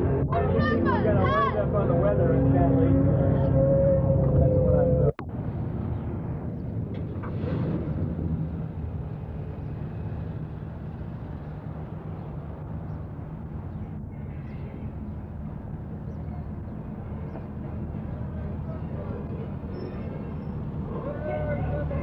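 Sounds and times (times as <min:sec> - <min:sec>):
small train engine rumbling: 0:00.0 - 0:06.0, 0:06.6 - 0:22.0.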